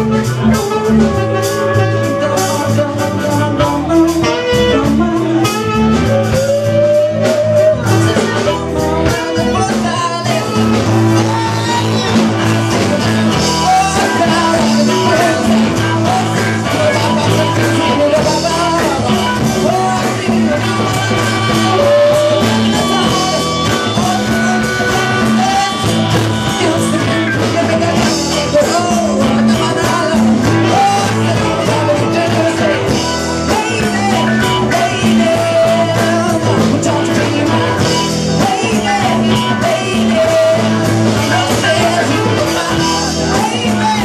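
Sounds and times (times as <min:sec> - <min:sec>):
acoustic and electric guitars: 0:00.0 - 0:44.0
drums: 0:00.0 - 0:44.0.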